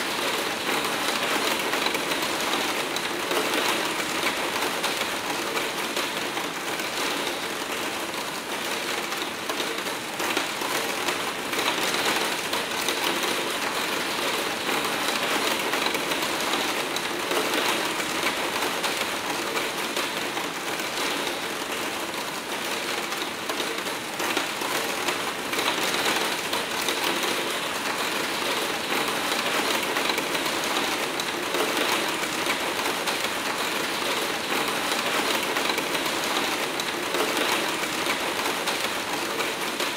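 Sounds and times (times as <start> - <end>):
hard rain on glass: 0.0 - 39.9.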